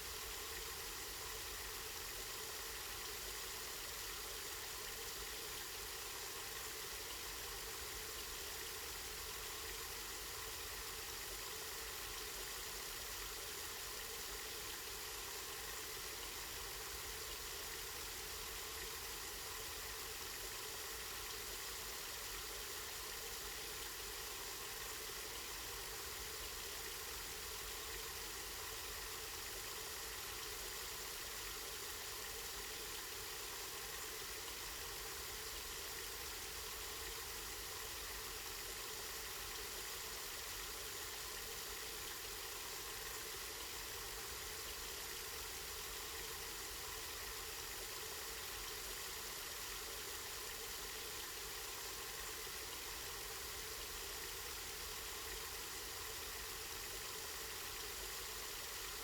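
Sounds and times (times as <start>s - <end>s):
spring water running and splashing: 11.3s - 59.0s.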